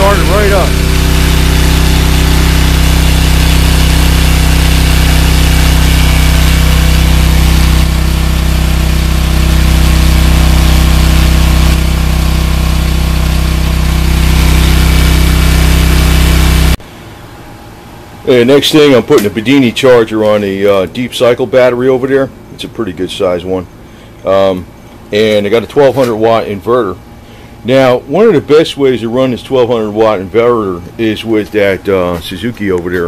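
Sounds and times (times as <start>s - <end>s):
diesel generator running: 0.0s - 33.0s.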